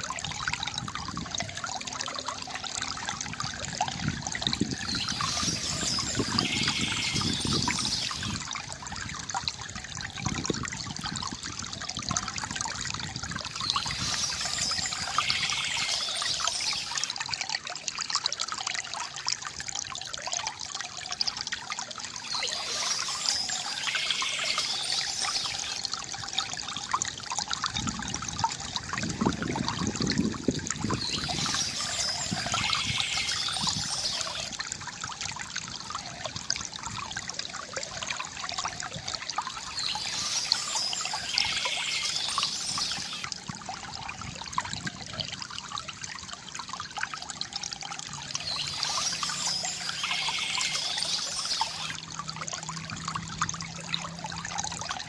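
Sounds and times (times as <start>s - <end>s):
water trickling from a fountain: 0.0s - 55.0s.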